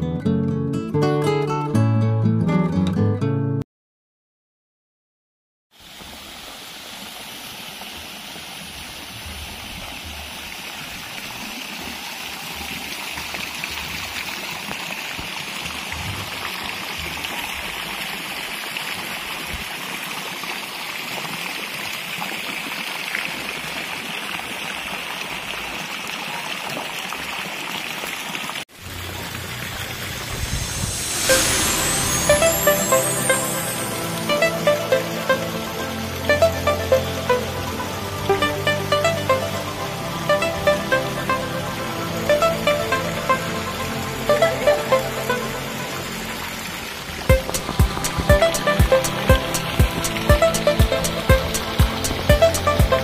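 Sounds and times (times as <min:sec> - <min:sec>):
waterfall splashing into pool: 0:05.8 - 0:39.7, 0:42.1 - 0:53.0.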